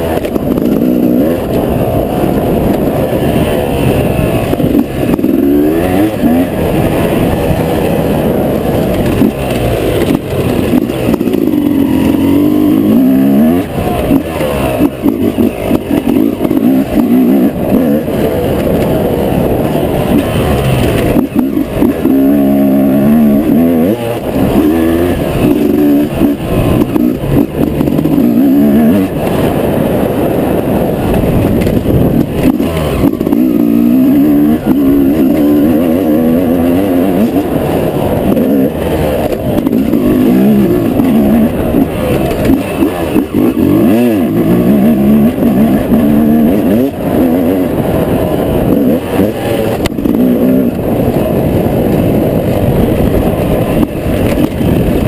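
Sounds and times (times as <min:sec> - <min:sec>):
two-stroke motocross engine revving: 0:00.0 - 0:55.0.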